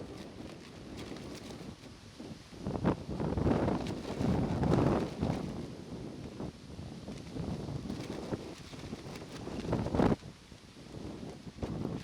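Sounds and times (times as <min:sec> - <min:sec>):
plastic raincoat fluttering: 0:00.0 - 0:12.0
wind buffeting microphone: 0:00.0 - 0:12.0.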